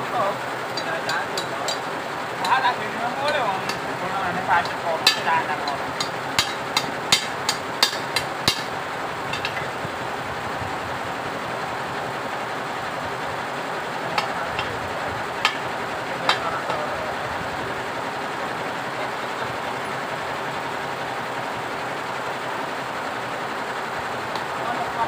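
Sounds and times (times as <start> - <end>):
steady background rush: 0.0 - 25.0.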